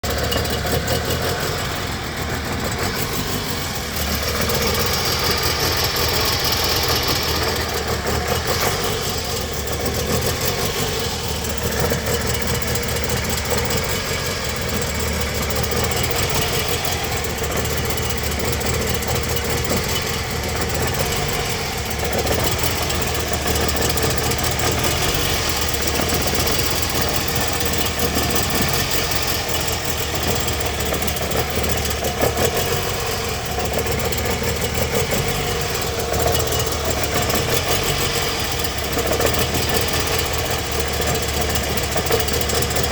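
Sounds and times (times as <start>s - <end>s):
car engine idling roughly: 0.0s - 42.9s.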